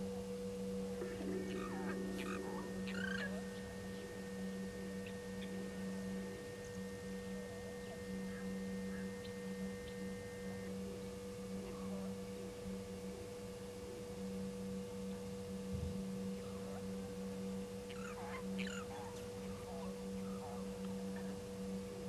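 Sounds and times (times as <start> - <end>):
electrical hum: 0.0 - 22.0
faint bird chirps: 0.9 - 14.4, 16.3 - 22.0.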